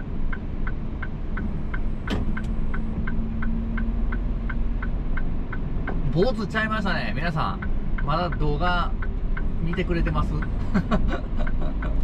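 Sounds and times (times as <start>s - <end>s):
diesel engine humming: 0.0s - 12.0s
turn signal flasher ticking: 0.0s - 12.0s.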